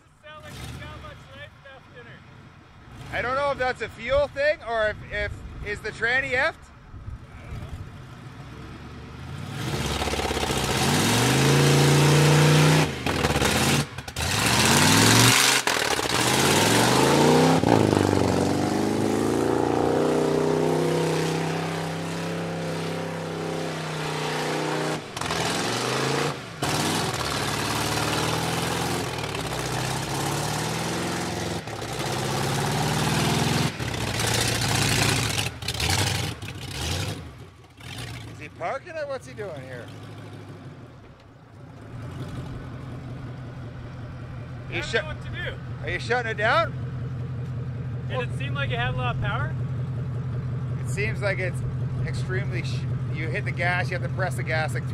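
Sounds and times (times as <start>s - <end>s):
truck engine revving: 0.0s - 6.4s, 7.2s - 54.9s.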